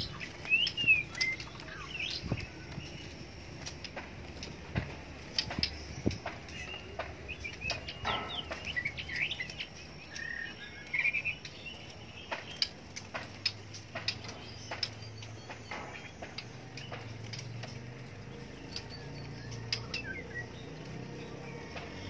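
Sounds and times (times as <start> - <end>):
bird chirps and trills: 0.0 - 22.0
birds tapping in wire cages: 0.0 - 22.0.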